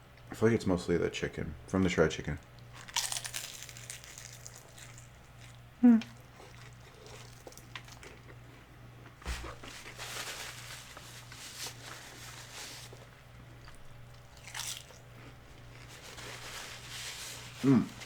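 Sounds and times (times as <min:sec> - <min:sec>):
crunchy chewing of fried food: 0:02.4 - 0:18.0.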